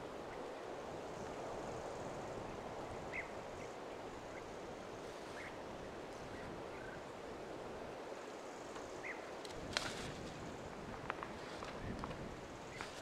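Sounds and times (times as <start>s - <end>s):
wind rushing through trees: 0.0s - 13.0s.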